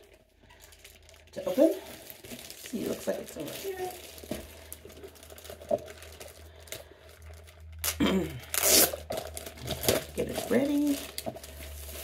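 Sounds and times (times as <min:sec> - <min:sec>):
plastic ripping: 0:00.0 - 0:12.0
plastic wrapping crinkling: 0:00.0 - 0:12.0.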